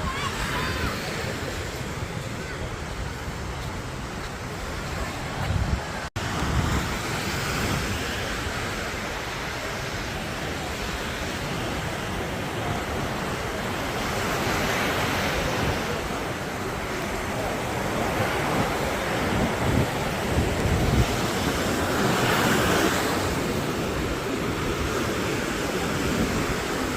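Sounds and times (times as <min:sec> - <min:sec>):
wind rumbling on microphone: 0:00.0 - 0:14.1, 0:14.8 - 0:26.9
surf washing onto sand: 0:00.0 - 0:26.9.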